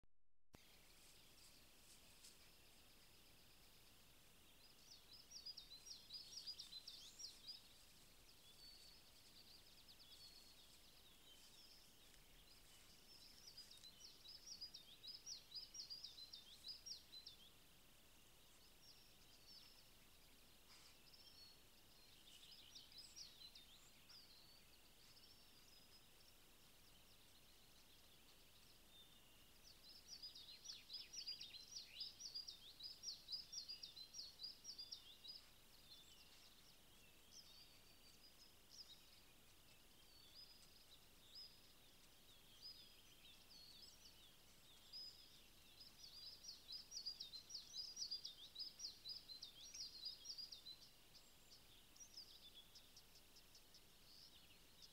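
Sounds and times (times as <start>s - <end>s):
faint hiss: 0.6s - 54.9s
songbird chirping: 0.6s - 54.9s.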